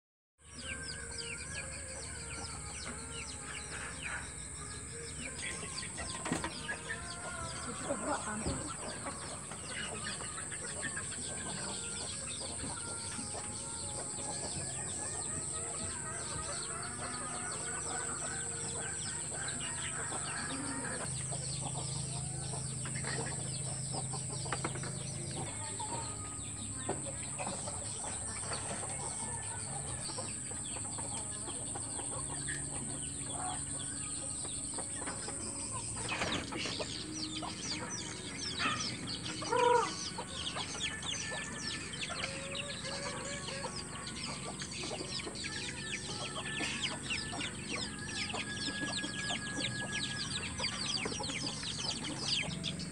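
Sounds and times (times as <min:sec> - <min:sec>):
chickens clucking: 0:00.6 - 0:52.9
steady high-pitched hum: 0:01.0 - 0:52.9.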